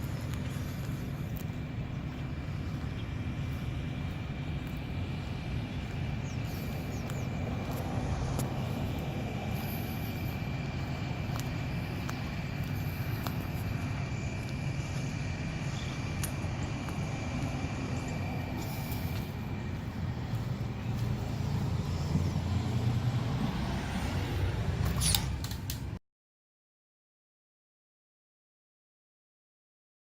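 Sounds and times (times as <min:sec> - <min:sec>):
high whine: 0:00.0 - 0:26.0
truck engine drone: 0:00.0 - 0:26.0.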